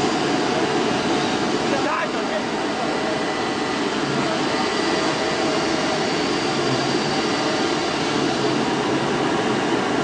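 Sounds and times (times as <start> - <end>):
cutting machine rushing hum: 0.0 - 10.0.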